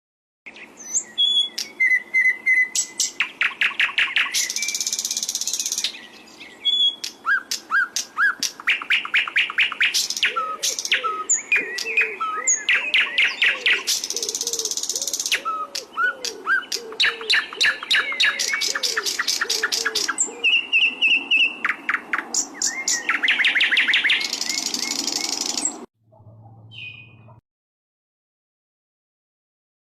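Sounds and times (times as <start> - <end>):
flycatcher singing trills: 0.5 - 25.9.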